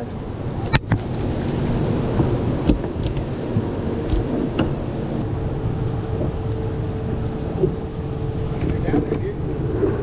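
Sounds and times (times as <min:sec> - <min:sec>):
wind and rain rumble: 0:00.0 - 0:10.0.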